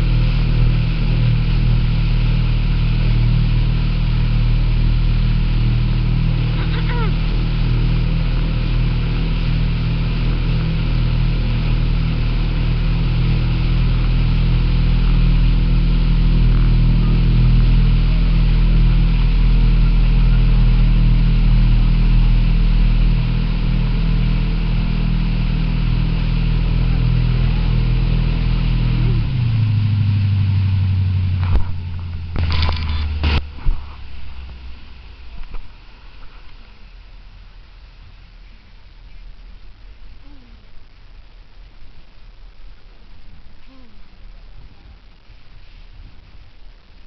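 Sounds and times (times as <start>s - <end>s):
motorboat engine running: 0.0s - 47.0s
water noise: 0.0s - 47.0s
wind: 0.0s - 47.0s.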